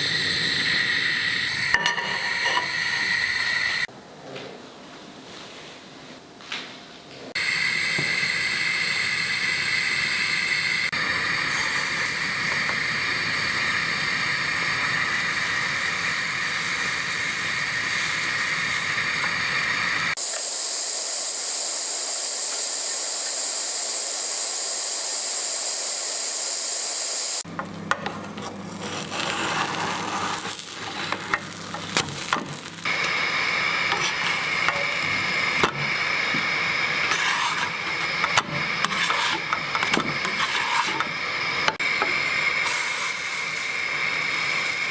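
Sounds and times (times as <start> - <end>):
batter sizzling in a frying pan: 7.4 - 44.9.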